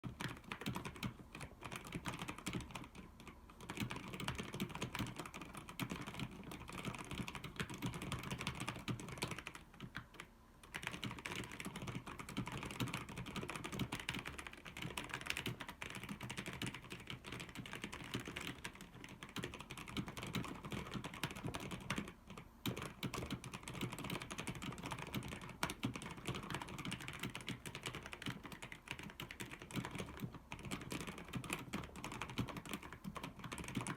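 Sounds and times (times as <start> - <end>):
fast mechanical keyboard typing: 0.0 - 33.9.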